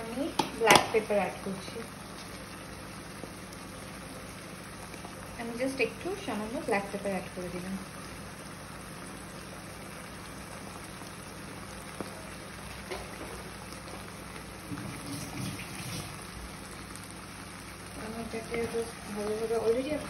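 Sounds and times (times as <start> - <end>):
sauce simmering with crackling hiss: 0.0 - 20.0.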